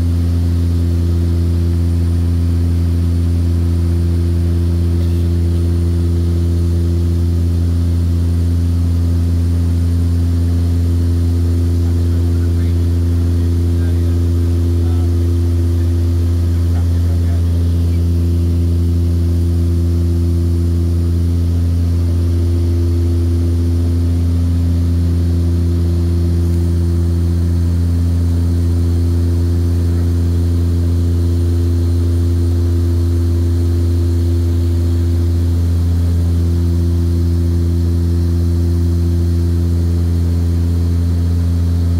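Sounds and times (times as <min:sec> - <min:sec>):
propeller aircraft cabin drone: 0:00.0 - 0:41.9
steady humming tones: 0:00.0 - 0:41.9.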